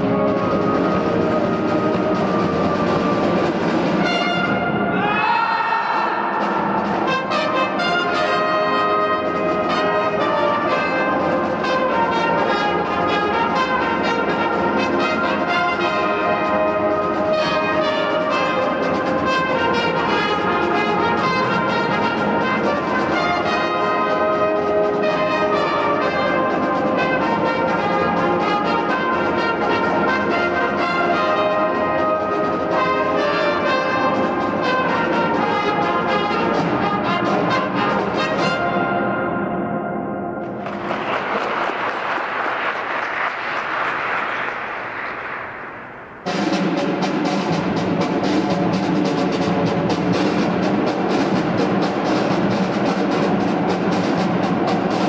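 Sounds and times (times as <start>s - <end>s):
brass and reed band playing: 0.0s - 41.5s, 46.3s - 55.0s.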